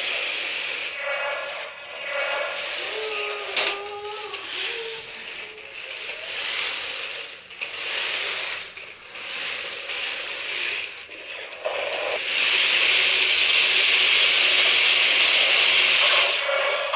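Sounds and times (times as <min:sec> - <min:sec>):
toy car motors whirring: 0:00.0 - 0:01.5, 0:02.1 - 0:16.9.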